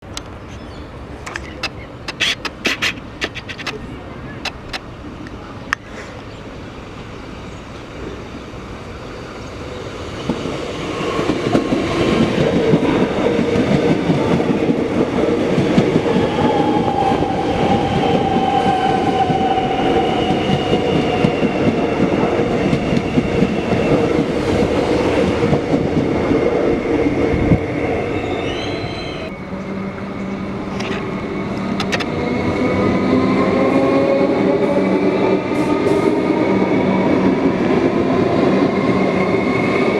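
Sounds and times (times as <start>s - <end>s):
electric train running on rails: 0.1s - 39.9s.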